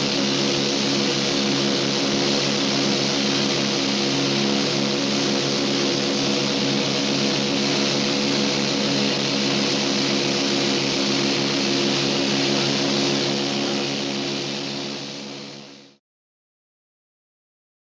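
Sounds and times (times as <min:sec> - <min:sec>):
propeller engines droning: 0:00.0 - 0:15.9.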